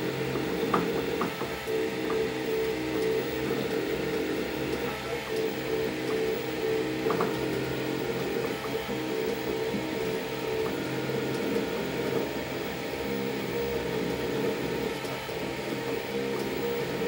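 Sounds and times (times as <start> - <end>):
cooling fans humming: 0.0 - 17.0
stepper motors whining: 0.0 - 17.0.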